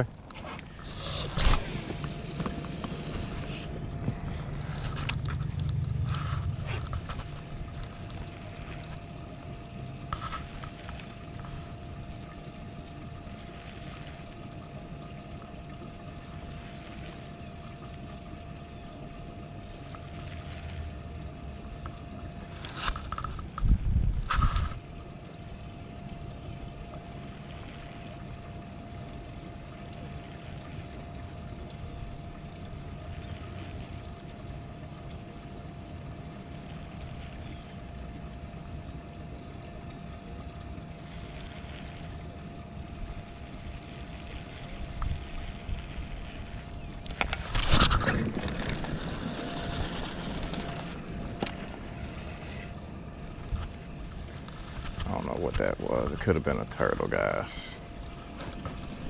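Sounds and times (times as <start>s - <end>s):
faint steady hum: 0.0s - 59.0s
low boat rumble: 0.0s - 59.0s.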